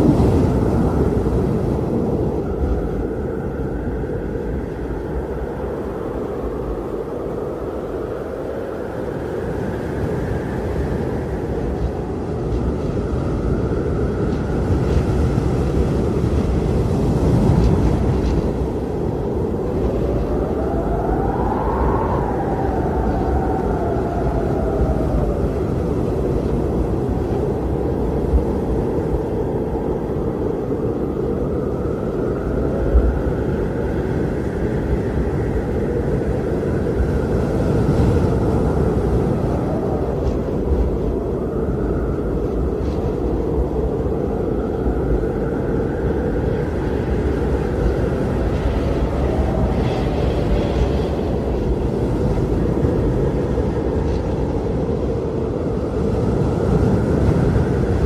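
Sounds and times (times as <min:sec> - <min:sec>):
blizzard wind rushing: 0:00.0 - 0:58.0
faint howling wind tone: 0:00.0 - 0:58.0.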